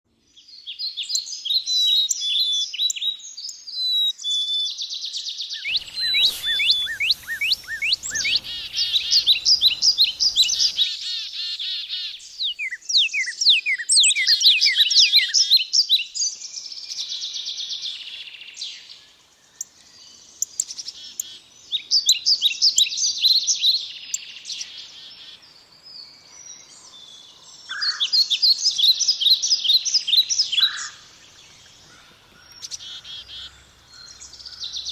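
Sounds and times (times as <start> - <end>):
songbirds singing and chirping: 0.2 - 34.9.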